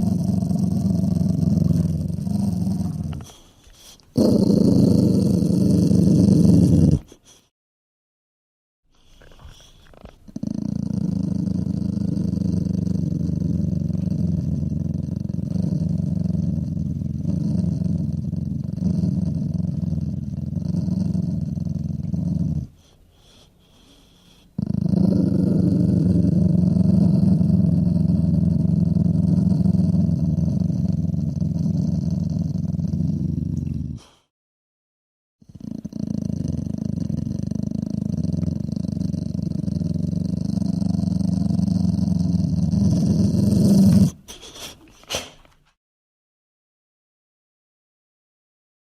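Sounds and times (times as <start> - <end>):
dog growling low: 0.0 - 7.4, 9.0 - 23.5, 24.2 - 34.3, 35.4 - 45.2.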